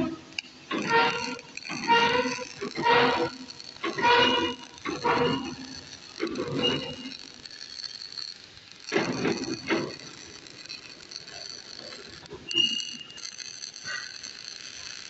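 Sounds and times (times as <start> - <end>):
welding arc crackling: 0.0 - 15.0.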